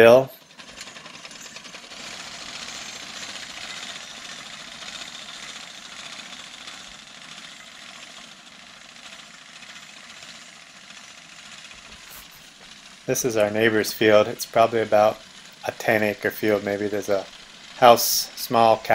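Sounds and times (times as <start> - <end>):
mower clattering cutting hay: 0.0 - 18.9.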